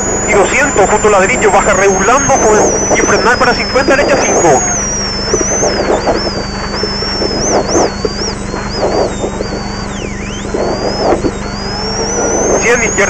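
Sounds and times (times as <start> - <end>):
rally car engine and drivetrain whine: 0.0 - 13.0.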